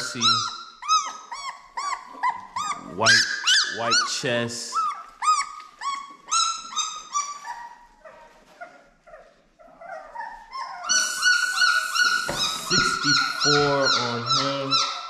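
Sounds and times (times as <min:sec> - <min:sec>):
puppy crying: 0:00.0 - 0:15.0.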